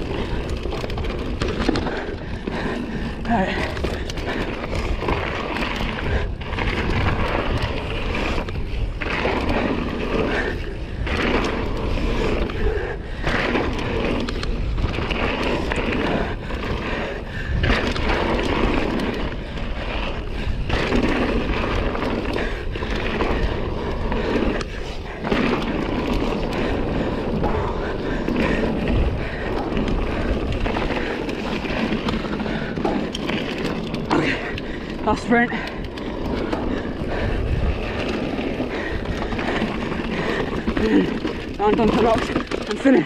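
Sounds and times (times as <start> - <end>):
bike tyres on rocky dirt: 0.0 - 43.0.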